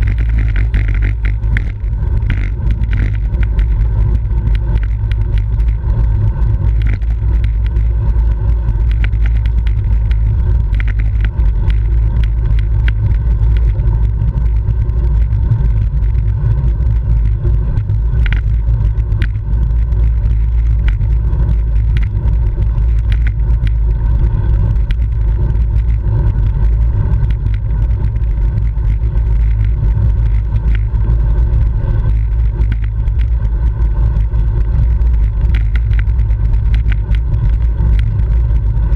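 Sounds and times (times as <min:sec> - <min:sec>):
bicycle clicks and rattles: 0:00.0 - 0:38.9
wind buffeting microphone: 0:00.0 - 0:38.9.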